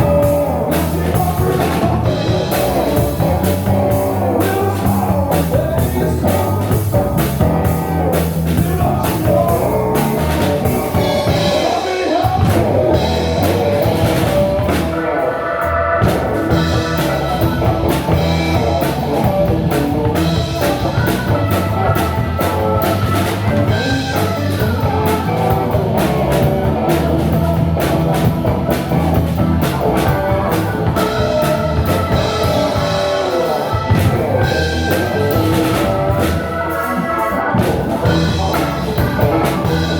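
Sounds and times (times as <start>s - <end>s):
bass: 0.0s - 39.9s
drum kit: 0.0s - 39.9s
electric guitar: 0.0s - 39.9s
keyboard: 0.0s - 39.9s.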